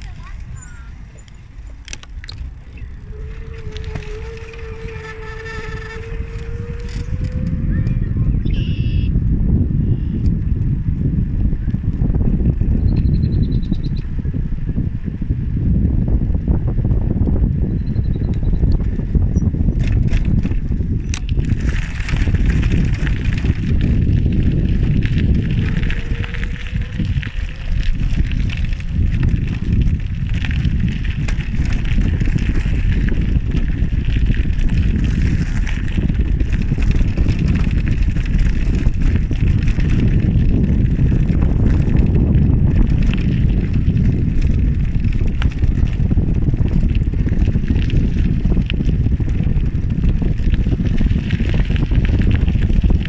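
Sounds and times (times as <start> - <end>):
bicycle riding noise: 0.0 - 53.0
wind rumble on microphone: 0.0 - 53.0.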